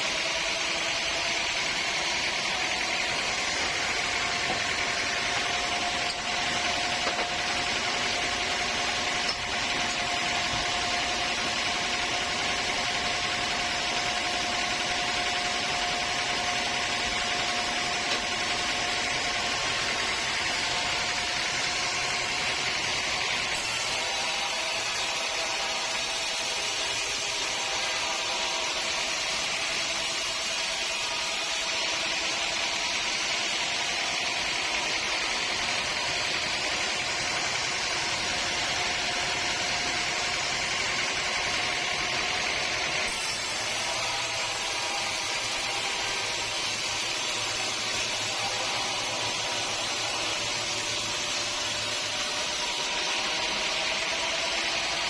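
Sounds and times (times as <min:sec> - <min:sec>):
saw cutting wood: 0:00.0 - 0:55.0.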